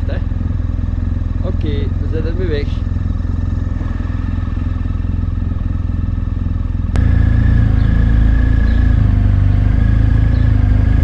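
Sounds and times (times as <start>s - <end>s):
motorcycle engine pulling away: 0.3s - 11.0s.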